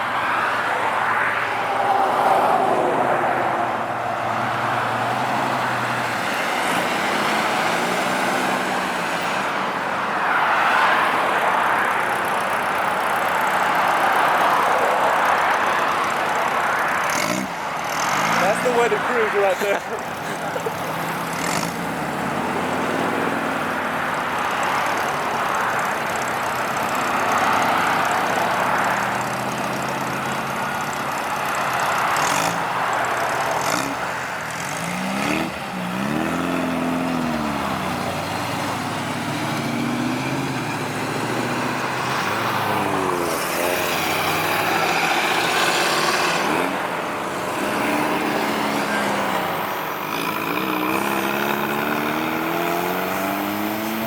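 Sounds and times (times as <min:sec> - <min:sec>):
car engines revving: 0:00.0 - 0:54.0
cars driving past: 0:00.0 - 0:54.0
traffic rumble: 0:00.0 - 0:54.0.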